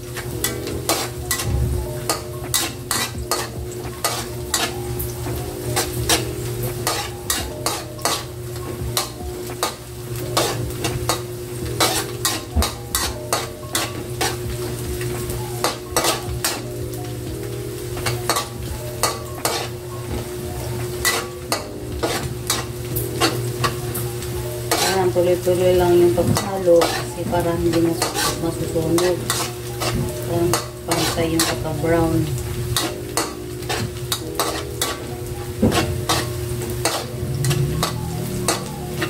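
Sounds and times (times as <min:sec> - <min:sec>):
garlic sizzling in oil: 0:00.0 - 0:39.0
metal spatula scraping wok: 0:00.1 - 0:08.4, 0:09.0 - 0:16.7, 0:18.0 - 0:19.8, 0:21.0 - 0:23.8, 0:24.6 - 0:39.0.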